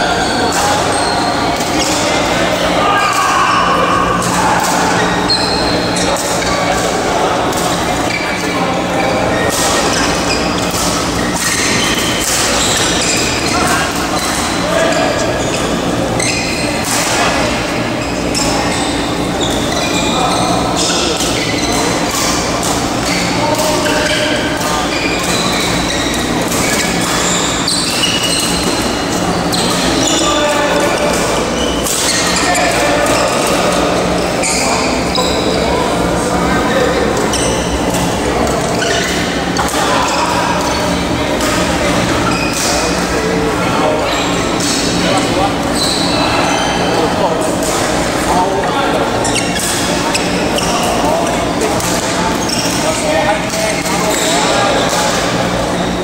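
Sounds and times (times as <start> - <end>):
players' voices chattering: 0.0 - 56.0
shoes squeaking on court floor: 0.0 - 56.0.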